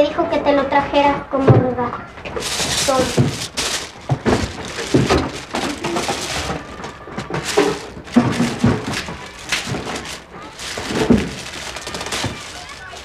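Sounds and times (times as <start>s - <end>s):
wrapping paper crinkling: 2.3s - 13.0s.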